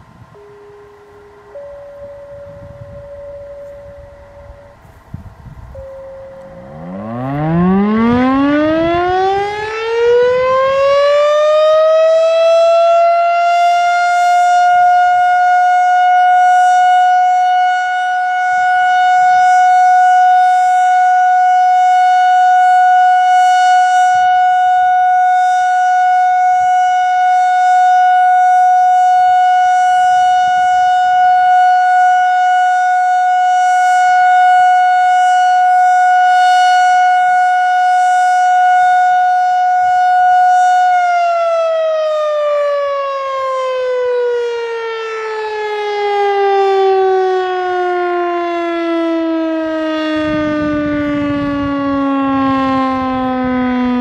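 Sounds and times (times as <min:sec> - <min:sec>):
warning siren single-tone alert: 0:00.0 - 0:54.0.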